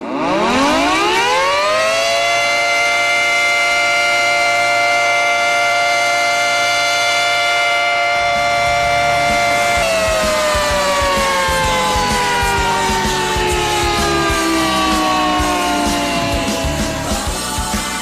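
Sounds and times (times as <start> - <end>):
siren-like goal horn: 0.0 - 17.4.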